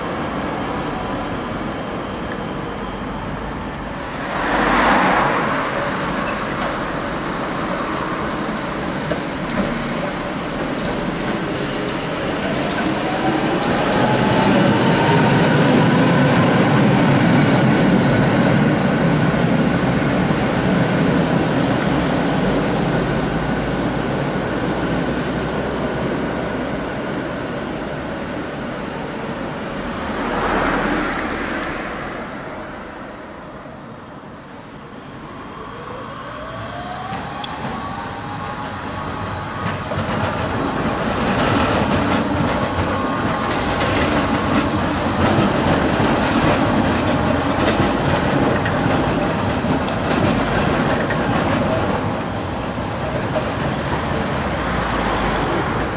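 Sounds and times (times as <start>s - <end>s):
tram motors whining: 0.0s - 55.9s
tram rumbling past: 0.0s - 55.9s
tram wheels clicking over rails: 3.3s - 32.8s, 37.0s - 55.9s.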